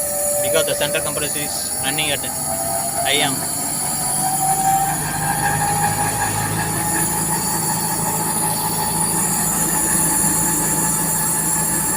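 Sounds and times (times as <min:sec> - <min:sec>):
compressor hum: 0:00.0 - 0:11.9
condenser fan hum: 0:00.0 - 0:11.9.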